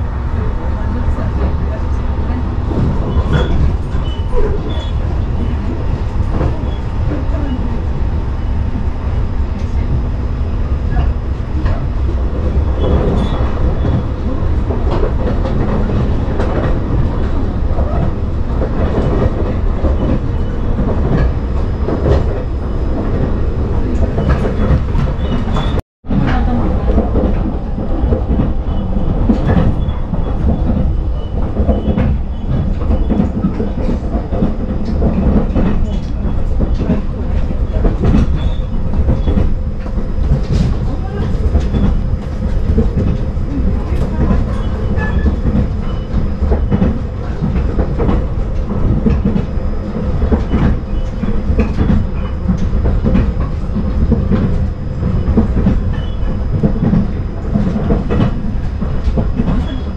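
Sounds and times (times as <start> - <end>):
train running on rails: 0.0 - 59.9.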